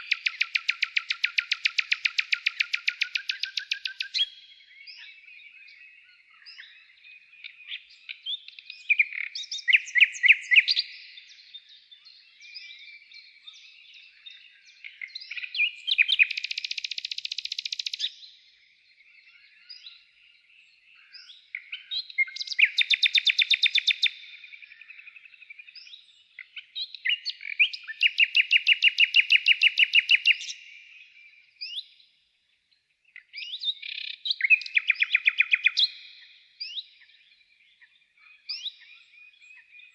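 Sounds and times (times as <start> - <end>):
bird chirps: 0.0 - 39.9
songbird trills: 0.0 - 39.9.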